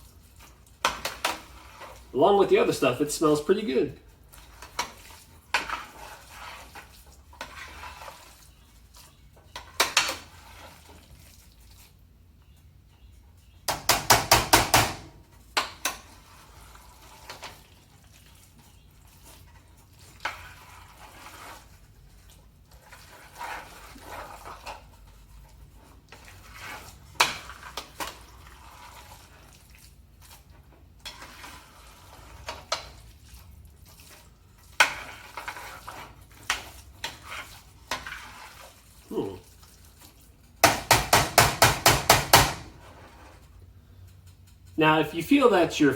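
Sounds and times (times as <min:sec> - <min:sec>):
utensil scraping a pan: 0:00.0 - 0:12.0, 0:15.4 - 0:40.9.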